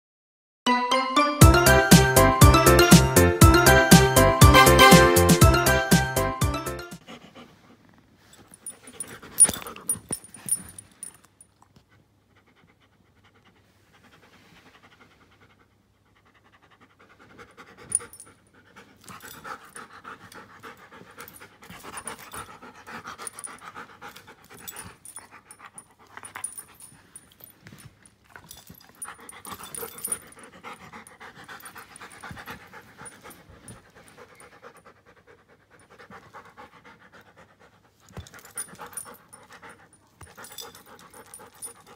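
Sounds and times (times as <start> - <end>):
dog panting: 7.0 - 41.9.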